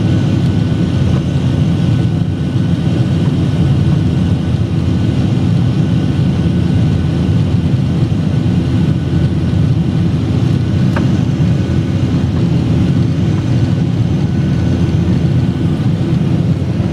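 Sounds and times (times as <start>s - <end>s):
jet engines low rumble in cabin: 0.0s - 16.9s.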